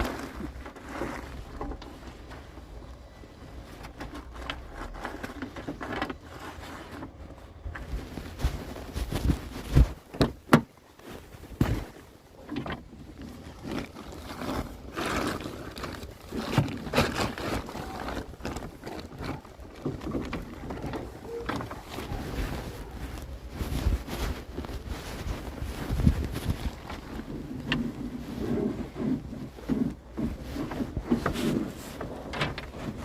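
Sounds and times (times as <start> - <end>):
knocks and scrapes of work: 0.0 - 2.8, 3.7 - 33.0.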